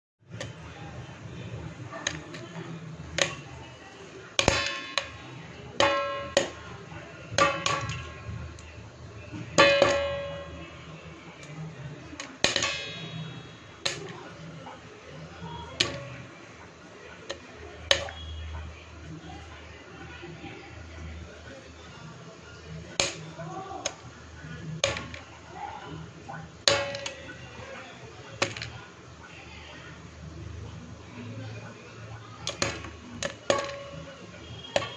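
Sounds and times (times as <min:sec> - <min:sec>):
popcorn popping in covered pan: 0:00.2 - 0:21.3, 0:22.2 - 0:29.3, 0:29.9 - 0:34.9.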